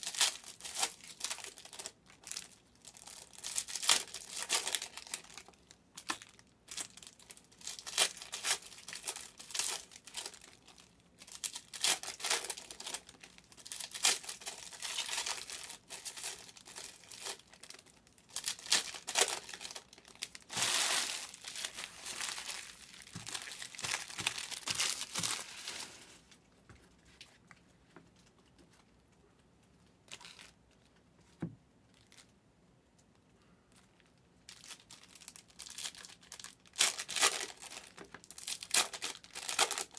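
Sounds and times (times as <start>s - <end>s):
plastic wrappers crinkling and tearing: 0.0s - 26.4s, 30.0s - 30.9s, 31.9s - 32.3s, 33.7s - 39.9s.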